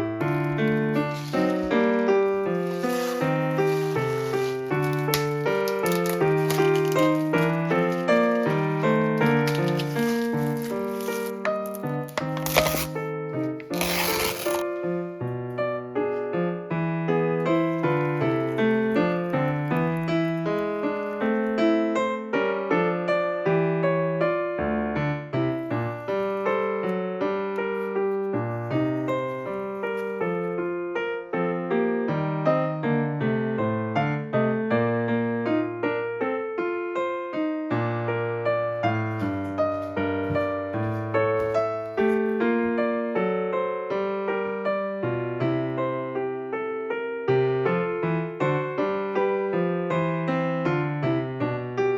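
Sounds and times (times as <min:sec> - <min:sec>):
gentle piano music: 0:00.0 - 0:13.8, 0:14.6 - 0:51.9.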